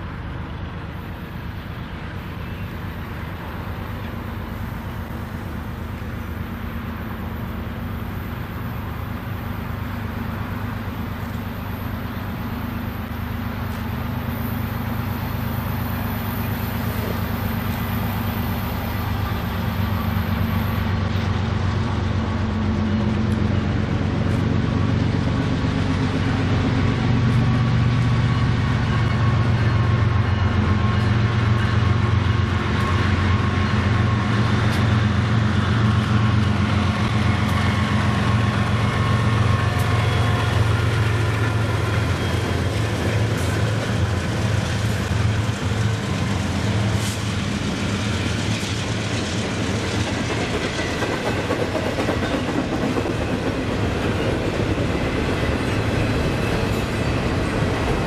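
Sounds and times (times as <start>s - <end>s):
diesel locomotive engine drone: 0.0s - 58.0s
train wheels rolling on rails: 0.0s - 58.0s.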